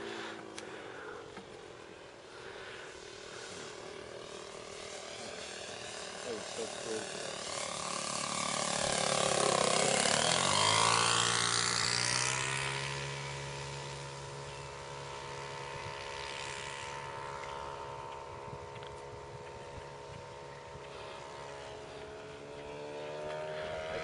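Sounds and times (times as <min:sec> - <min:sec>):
model plane engine and propeller: 0:00.0 - 0:24.0.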